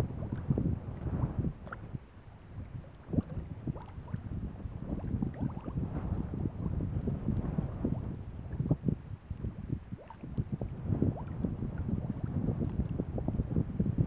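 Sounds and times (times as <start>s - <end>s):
water bubbling and gurgling: 0.0s - 14.0s
wind rumbling on microphone: 0.0s - 14.0s.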